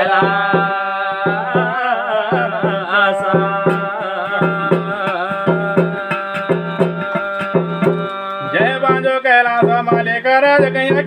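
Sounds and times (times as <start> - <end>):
hand drum beat: 0.0 - 11.0
person singing wavering melody: 0.0 - 11.0.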